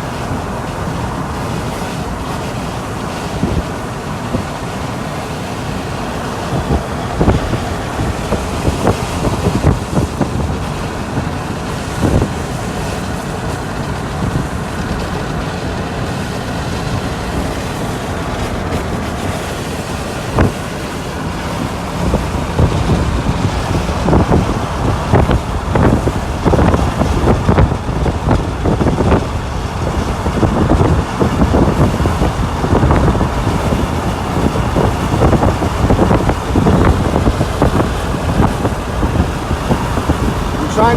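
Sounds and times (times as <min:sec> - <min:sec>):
gusty wind buffeting a car: 0:00.0 - 0:40.9
road noise: 0:00.0 - 0:40.9.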